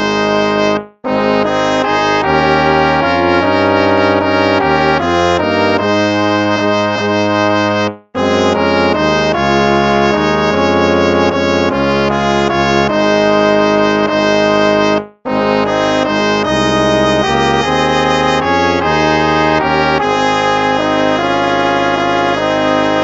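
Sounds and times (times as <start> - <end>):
instrumental background music: 0.0 - 23.0.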